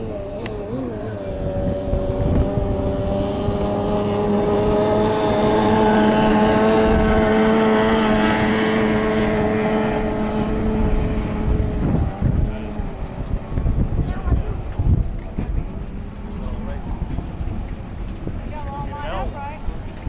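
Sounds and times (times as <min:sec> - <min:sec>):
racing boat engines whining: 0:00.0 - 0:20.0.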